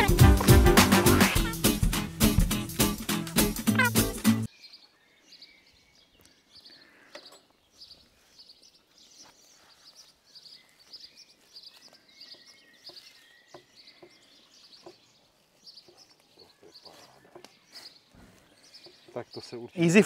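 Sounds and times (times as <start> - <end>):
birds chirping: 2.5 - 20.0.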